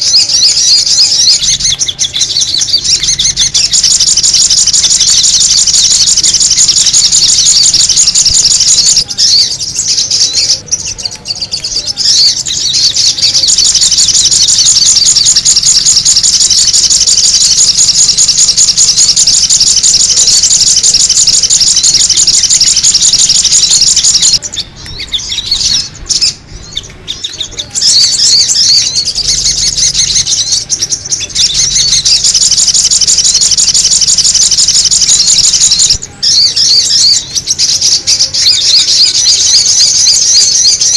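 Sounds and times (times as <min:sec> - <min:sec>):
rapid high-pitched bird chattering: 0:00.0 - 0:40.9.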